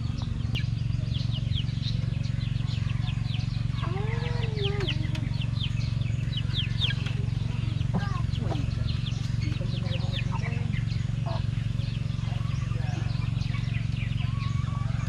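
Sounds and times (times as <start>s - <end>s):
drawn-out lower bird call: 0.0s - 15.0s
small birds chirping: 0.0s - 15.0s
steady low hum: 0.0s - 15.0s.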